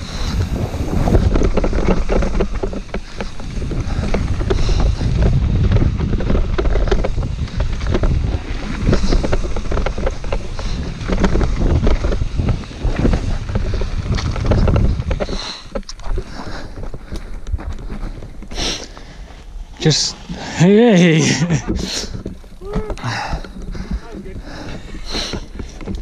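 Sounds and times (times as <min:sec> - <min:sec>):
wind buffeting microphone: 0:00.0 - 0:19.3, 0:20.2 - 0:26.0
mountain bike rattling: 0:00.0 - 0:26.0
tyres on gravel trail: 0:00.0 - 0:26.0.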